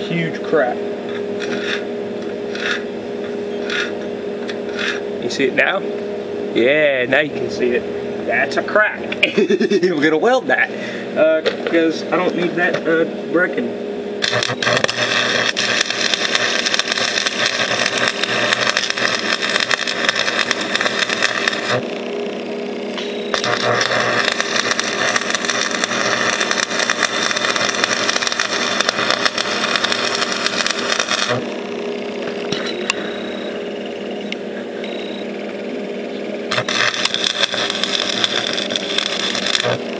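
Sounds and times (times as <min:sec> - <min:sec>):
steady engine-like hum: 0:00.0 - 0:39.9
welding arc crackling: 0:00.0 - 0:39.9.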